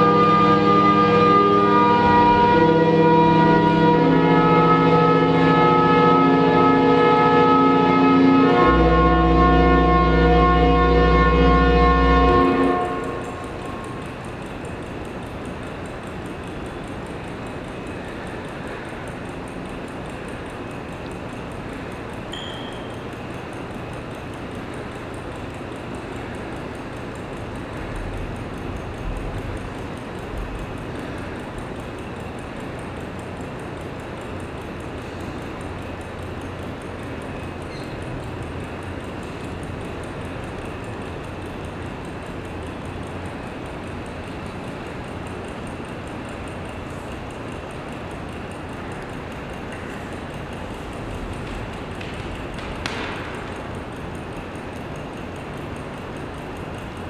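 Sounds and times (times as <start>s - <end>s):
hall room noise hum: 0.0s - 57.0s.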